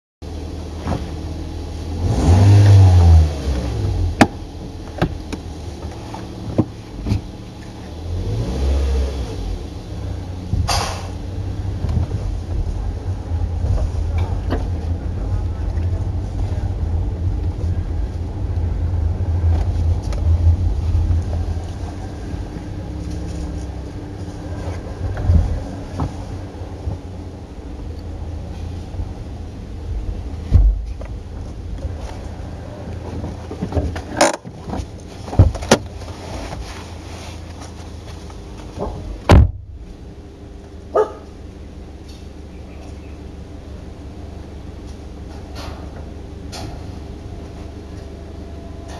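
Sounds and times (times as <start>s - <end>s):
car engine rumble: 0.2s - 48.9s
road noise: 0.2s - 48.9s.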